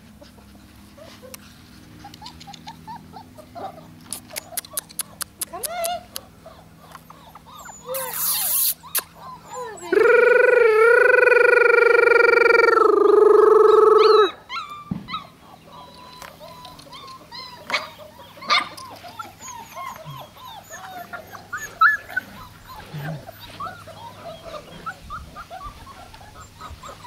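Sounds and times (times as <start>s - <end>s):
puppies whimpering and yipping: 0.1s - 27.0s.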